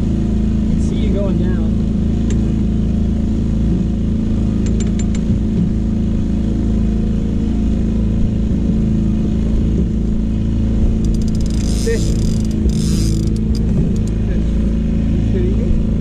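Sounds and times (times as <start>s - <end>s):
outboard motor droning: 0.0s - 16.0s
wind and water noise: 0.0s - 16.0s.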